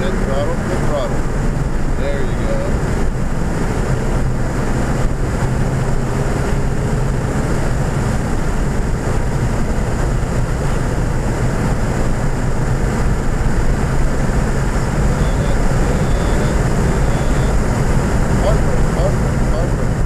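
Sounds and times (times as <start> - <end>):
car engine running hard: 0.0 - 20.0
road and wind noise: 0.0 - 20.0.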